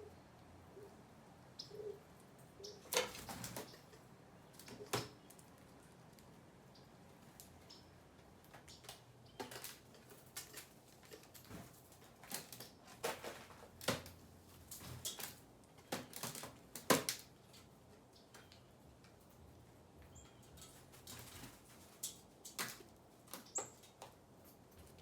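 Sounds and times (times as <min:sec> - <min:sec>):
birds tapping and clicking: 0:02.4 - 0:25.0.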